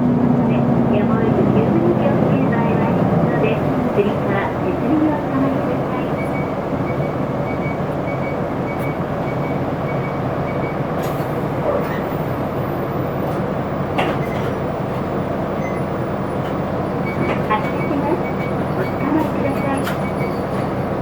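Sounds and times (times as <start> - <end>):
bus engine rumble: 0.0 - 21.0.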